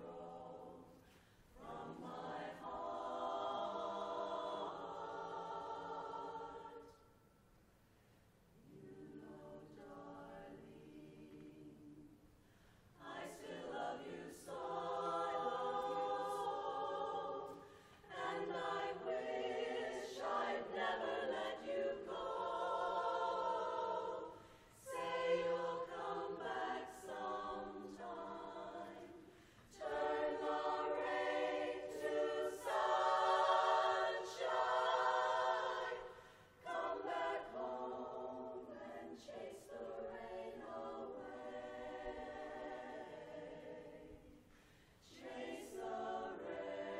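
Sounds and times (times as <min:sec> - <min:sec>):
women's chorus singing a cappella: 0:00.0 - 0:07.3, 0:08.6 - 0:46.9.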